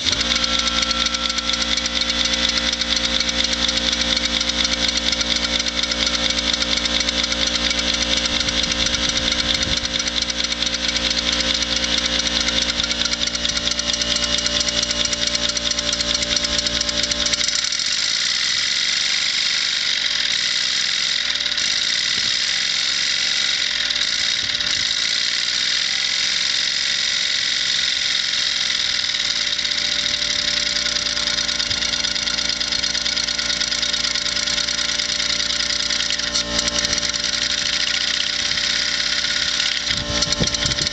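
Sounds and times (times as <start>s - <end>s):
model steam engine exhaust beats: 0.0s - 40.9s.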